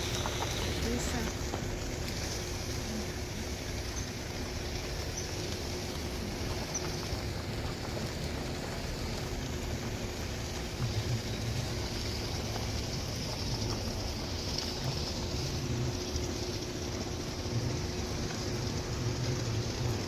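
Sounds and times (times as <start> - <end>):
faint steady hum: 0.0 - 20.0
heavy machinery engines rumbling: 0.0 - 20.0.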